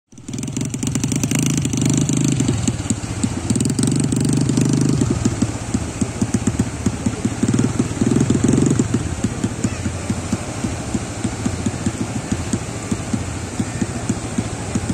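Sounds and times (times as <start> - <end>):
speedboat engine throbbing unevenly: 0.1 - 14.9.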